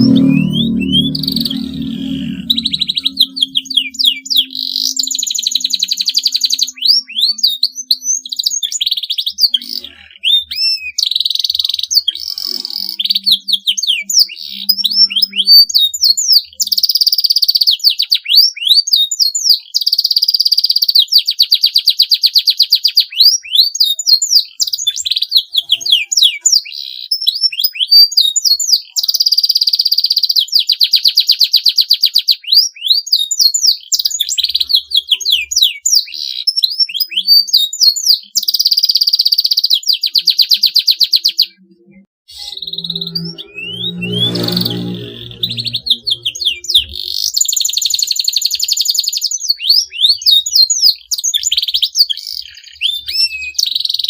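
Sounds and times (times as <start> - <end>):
canary singing: 0.0 - 19.8, 22.8 - 29.1, 32.4 - 54.0.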